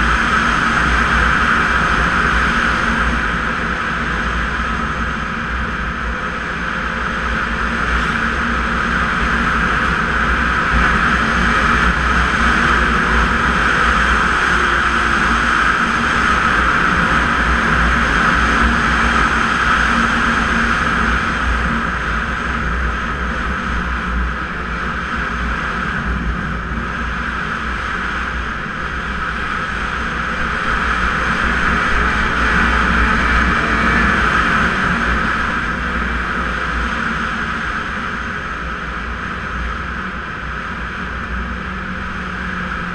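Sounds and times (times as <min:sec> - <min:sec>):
snowmobile engine drone: 0:00.0 - 0:42.9.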